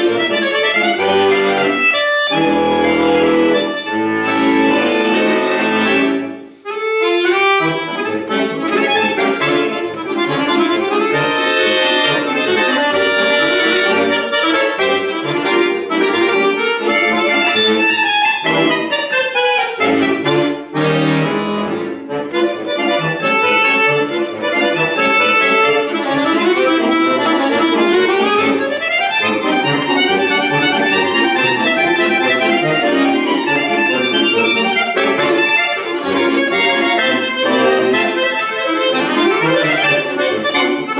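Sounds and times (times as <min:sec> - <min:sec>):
solo button accordion: 0:00.0 - 0:40.9.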